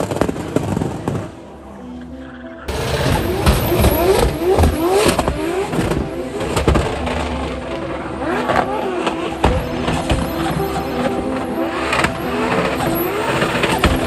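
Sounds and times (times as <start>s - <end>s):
car engine revving hard: 2.7s - 14.0s.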